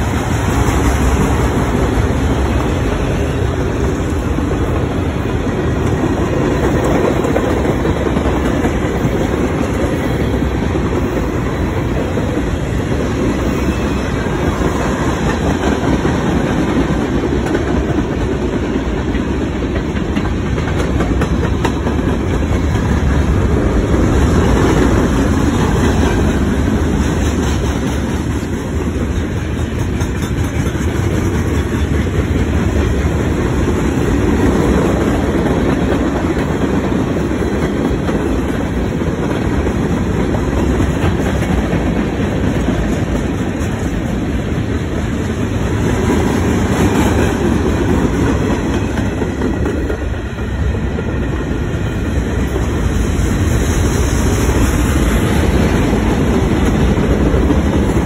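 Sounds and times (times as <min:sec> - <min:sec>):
clickety-clack over rail joints: 0:00.0 - 0:58.0
freight train wheels rumbling: 0:00.0 - 0:58.0.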